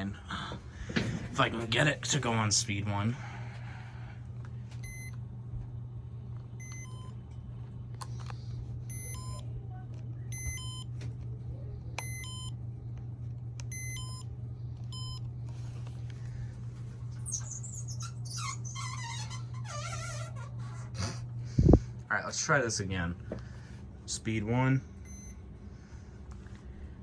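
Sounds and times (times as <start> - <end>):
ceiling fan motor hum: 0.0 - 27.0.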